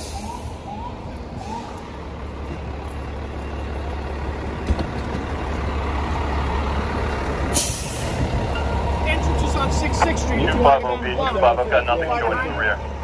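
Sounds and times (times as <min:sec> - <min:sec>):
fire engine diesel idling: 0:00.0 - 0:13.0.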